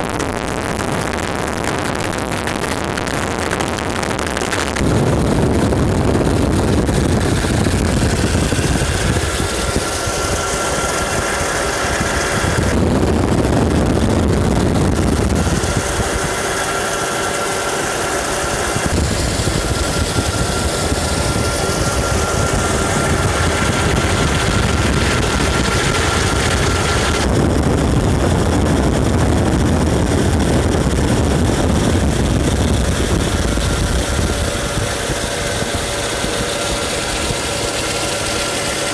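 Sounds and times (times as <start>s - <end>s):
helicopter turbine and rotor drone: 4.8s - 38.9s.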